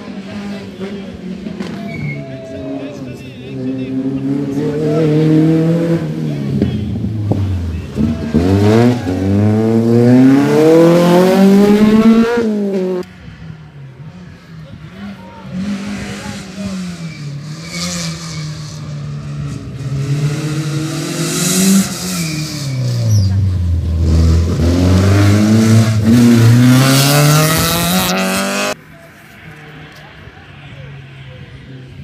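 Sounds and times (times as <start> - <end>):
rally car engine revving: 0.0 - 28.8
approaching rally car engine: 0.0 - 32.0
distant car engine: 0.0 - 32.0.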